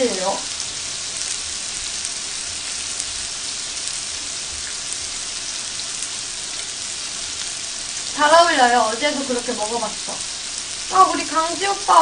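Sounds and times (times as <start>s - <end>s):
food sizzling on a grill plate: 0.0s - 12.0s.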